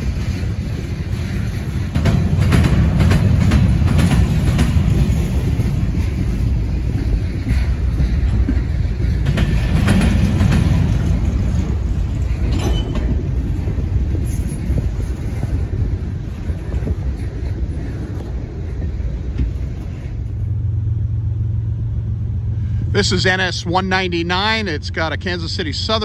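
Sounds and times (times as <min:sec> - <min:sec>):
freight train rumbling past: 0:00.0 - 0:26.0
steady low hum: 0:00.0 - 0:26.0
wheels clicking over rail joints: 0:00.0 - 0:26.0.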